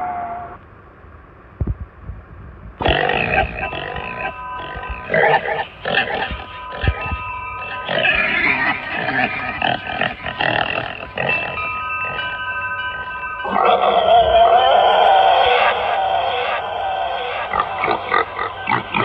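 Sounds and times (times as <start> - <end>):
eerie electronic tones: 2.8 - 19.0.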